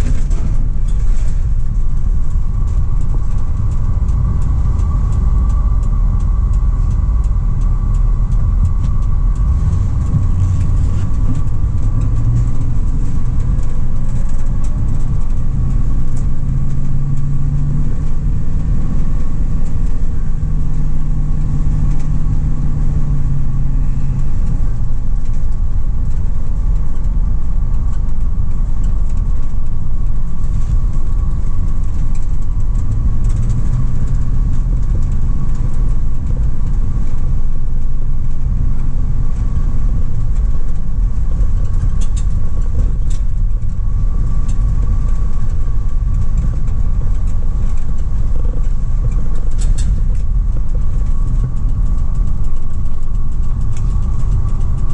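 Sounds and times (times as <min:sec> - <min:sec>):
van engine and road rumble: 0:00.0 - 0:54.9.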